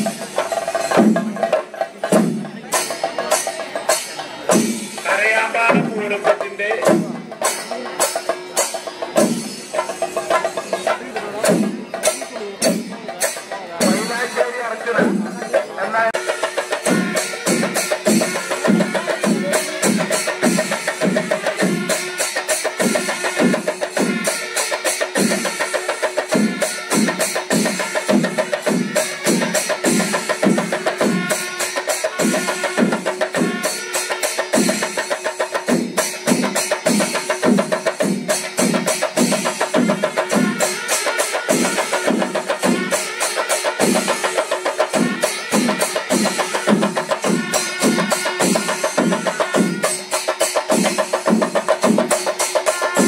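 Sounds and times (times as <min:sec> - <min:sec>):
fast drum and cymbal clatter: 0:00.0 - 0:53.0.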